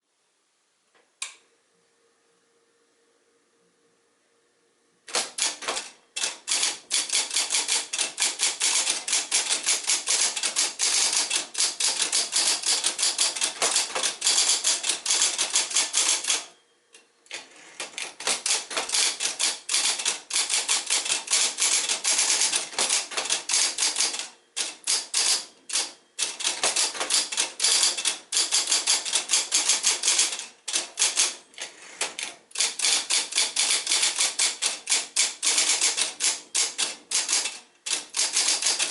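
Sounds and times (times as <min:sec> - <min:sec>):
typewriter keystrokes: 0:05.1 - 0:16.5, 0:17.3 - 0:38.9.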